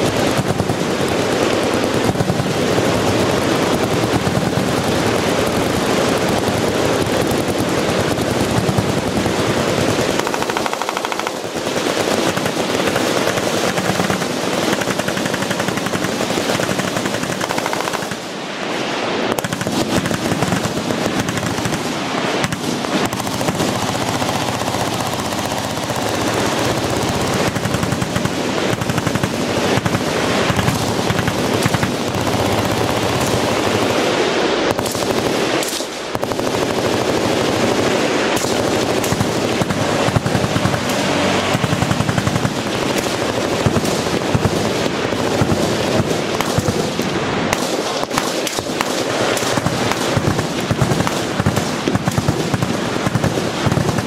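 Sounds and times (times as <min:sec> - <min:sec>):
massed machine-gun fire: 0:00.0 - 0:18.5, 0:19.3 - 0:54.0.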